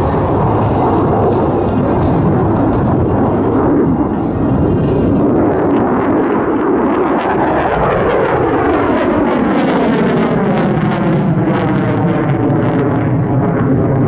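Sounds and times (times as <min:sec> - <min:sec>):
jet engine roaring with crackle: 0:00.0 - 0:14.0.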